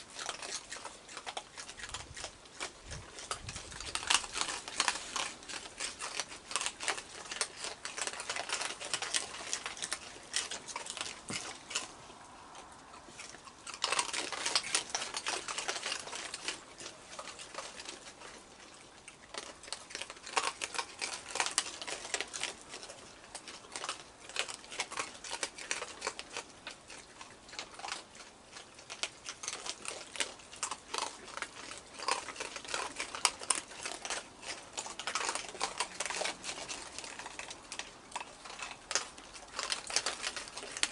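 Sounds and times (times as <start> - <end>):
raccoons crunching dry food: 0.0 - 40.9.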